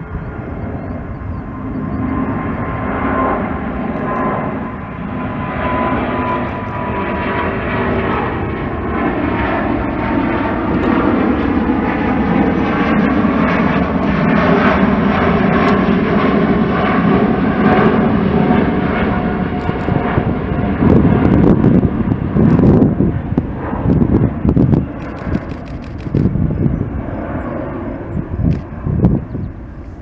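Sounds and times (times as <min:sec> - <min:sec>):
jet engines whining: 0:00.0 - 0:30.0
low jet rumble: 0:00.0 - 0:30.0.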